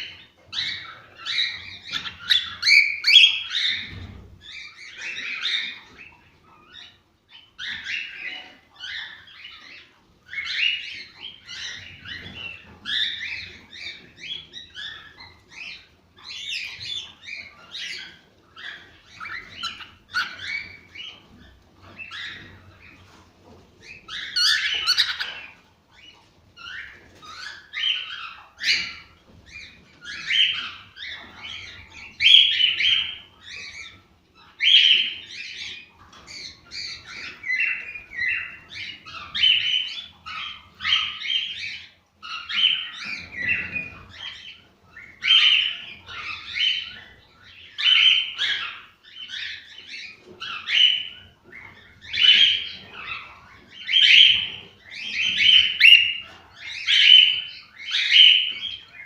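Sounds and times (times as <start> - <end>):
cockatiels chirping and warbling: 0.0 - 59.0.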